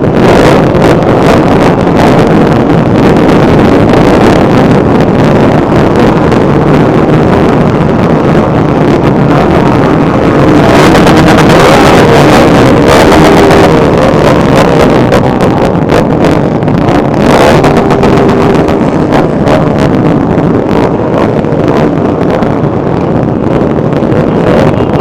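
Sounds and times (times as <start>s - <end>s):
motorcycle engines running: 0.0s - 25.0s
wind buffeting on microphone: 0.0s - 25.0s.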